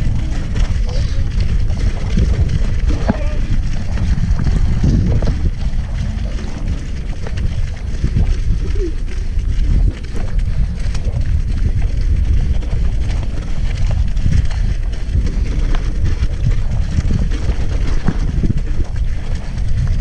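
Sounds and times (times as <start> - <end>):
bike clicks and rattles: 0.0 - 20.0
tyre rumble on dirt: 0.0 - 20.0
wind buffeting microphone: 0.0 - 20.0.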